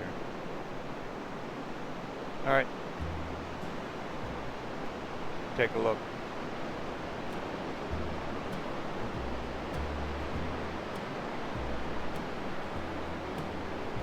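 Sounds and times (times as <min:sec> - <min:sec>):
waves breaking: 0:00.0 - 0:14.0.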